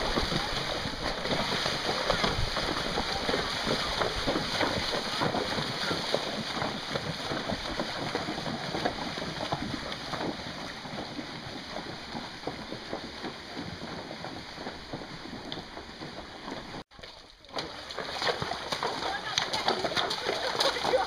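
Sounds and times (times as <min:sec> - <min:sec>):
hooves splashing in water: 0:00.0 - 0:21.0.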